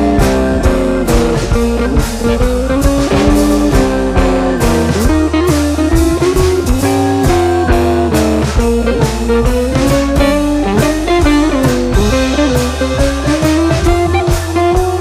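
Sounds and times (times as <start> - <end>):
blues-rock guitar melody: 0.0 - 15.0
drum-kit beat: 0.0 - 15.0.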